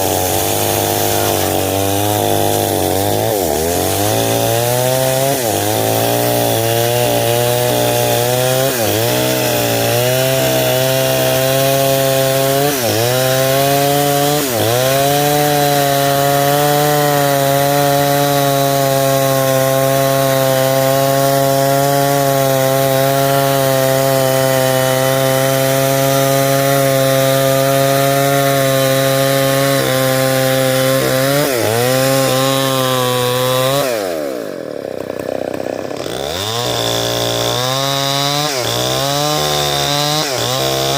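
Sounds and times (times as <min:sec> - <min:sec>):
chainsaw ripping a log: 0:00.0 - 0:40.9.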